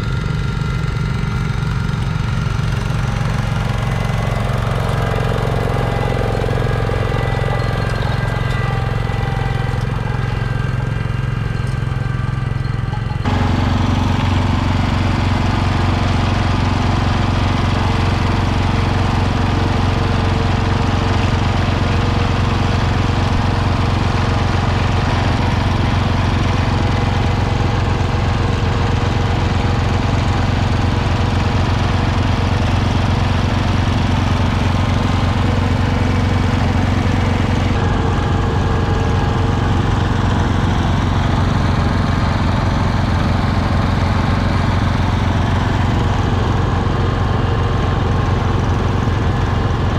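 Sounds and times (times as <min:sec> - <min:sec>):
garden tractor engine running: 0:00.0 - 0:49.9.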